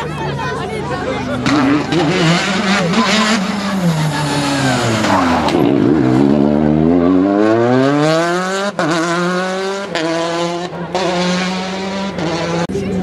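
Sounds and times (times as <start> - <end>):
car engine accelerating hard: 1.0 - 13.0
rally car braking: 1.2 - 12.8.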